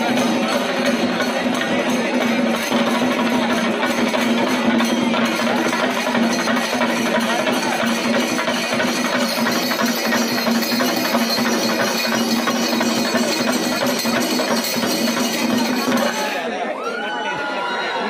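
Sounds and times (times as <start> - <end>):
drums playing fast rhythm: 0.0 - 16.5.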